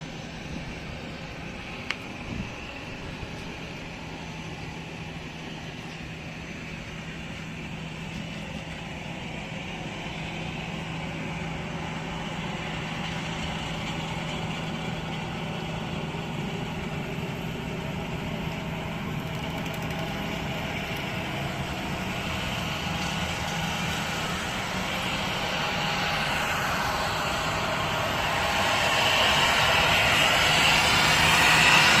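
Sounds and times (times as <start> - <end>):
airliner engines running: 0.0 - 32.0.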